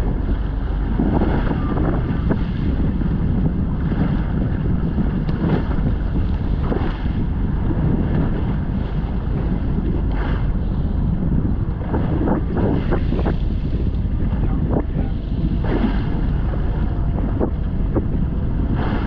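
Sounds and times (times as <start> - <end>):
steady low rumble: 0.0 - 19.0
waves washing against hull: 0.0 - 19.0
wind buffeting microphone: 0.0 - 19.0.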